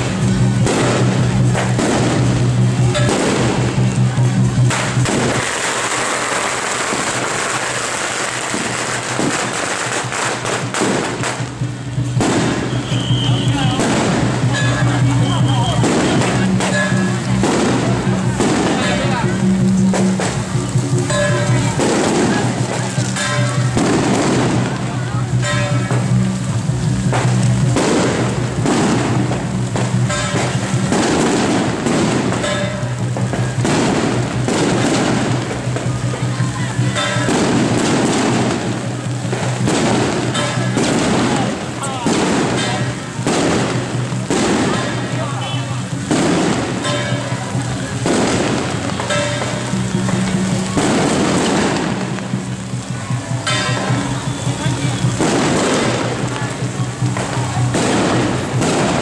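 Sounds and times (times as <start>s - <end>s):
firecrackers crackling: 0.0s - 59.0s
music: 0.0s - 59.0s
sharp firecracker pops: 0.0s - 59.0s.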